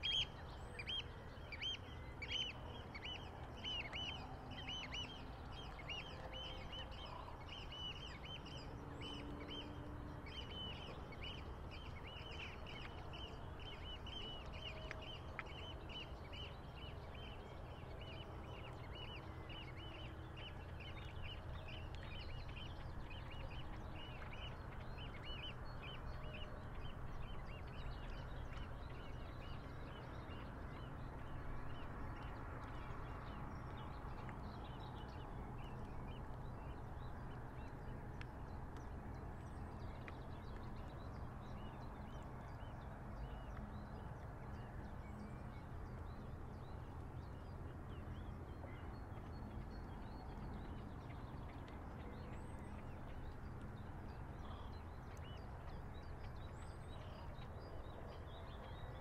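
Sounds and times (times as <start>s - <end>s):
low rumble of breeze and water: 0.0s - 59.0s.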